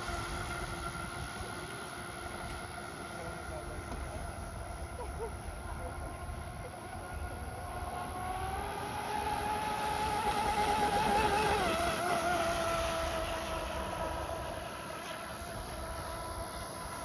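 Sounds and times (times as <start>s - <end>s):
electric boat motor whine: 0.0s - 17.0s.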